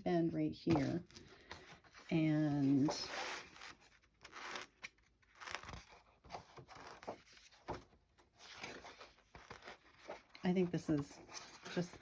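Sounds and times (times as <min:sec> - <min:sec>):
paper pages rustling: 0:00.7 - 0:12.0.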